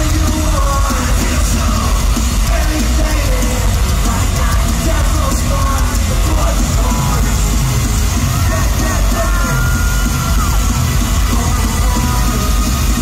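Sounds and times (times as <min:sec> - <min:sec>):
bass: 0:00.0 - 0:13.0
drums: 0:00.0 - 0:13.0
lead singer singing: 0:00.0 - 0:13.0
live pop-punk band: 0:00.0 - 0:13.0.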